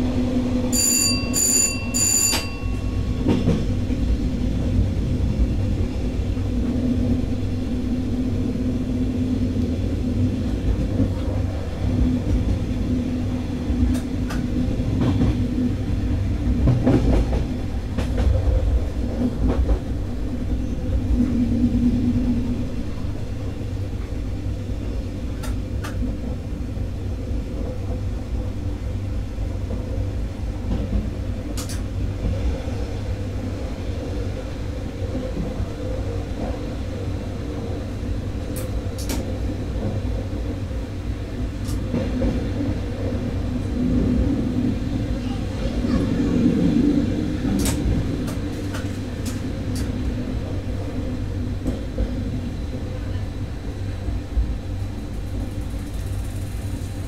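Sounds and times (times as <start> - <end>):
train engine hum: 0.0 - 57.0
train wheels rumbling on rails: 0.0 - 57.0.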